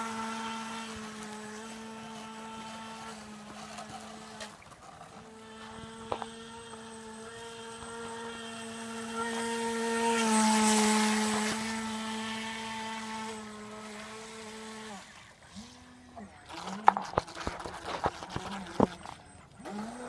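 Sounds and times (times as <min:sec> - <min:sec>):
rc boat motor whine: 0:00.0 - 0:20.0.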